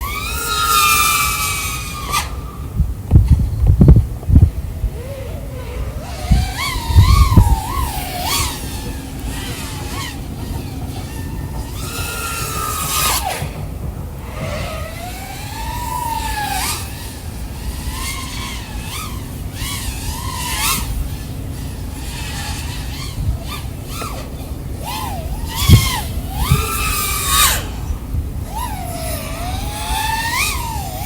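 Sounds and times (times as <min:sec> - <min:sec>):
drone motors whining: 0:00.0 - 0:31.0.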